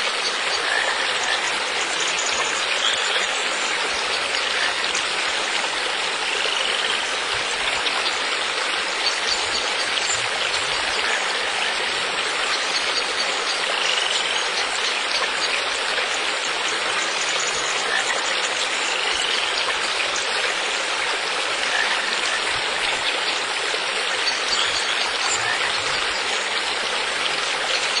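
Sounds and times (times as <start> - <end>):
rushing splashing water: 0.0 - 28.0.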